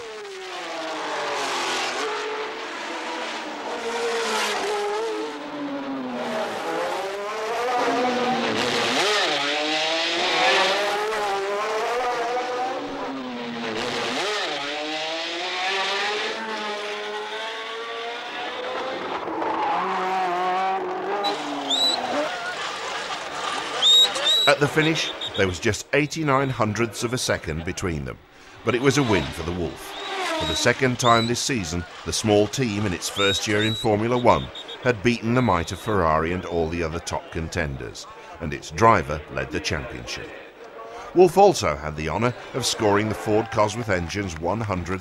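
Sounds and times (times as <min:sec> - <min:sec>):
racing car engines revving: 0:00.0 - 0:28.0, 0:28.6 - 0:45.0.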